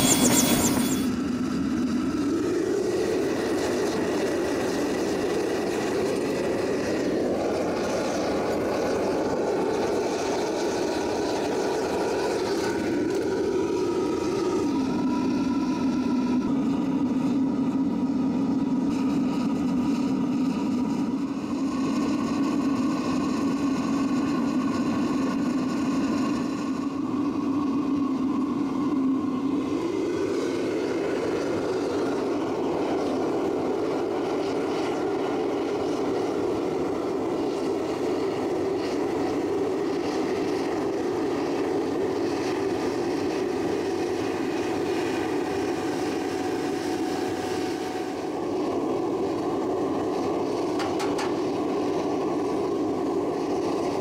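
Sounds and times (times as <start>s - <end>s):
furnace burner roaring: 0.0s - 54.0s.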